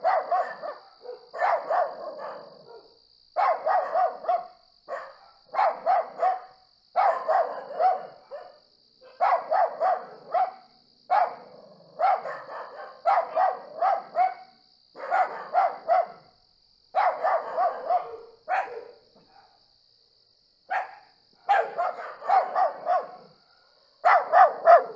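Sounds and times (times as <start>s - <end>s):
dog barking: 0.0s - 16.4s, 17.0s - 19.6s, 20.7s - 24.9s
crickets trilling: 0.0s - 24.9s.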